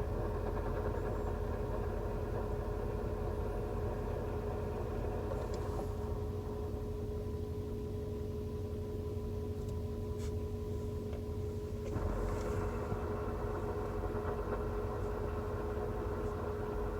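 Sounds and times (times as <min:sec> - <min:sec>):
car engine idling with whine: 0:00.0 - 0:16.9.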